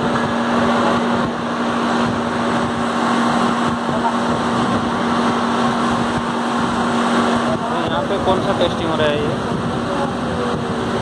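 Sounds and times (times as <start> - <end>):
heavy machinery humming and whirring: 0.0 - 11.0.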